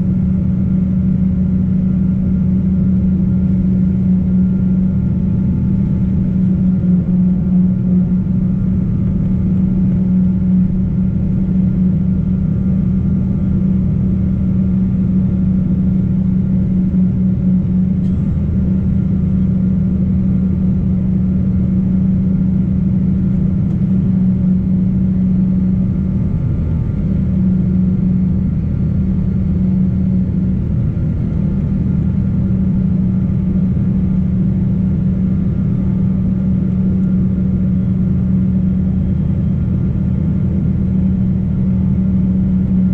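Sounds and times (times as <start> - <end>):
airplane engine drone in cabin: 0.0 - 42.9.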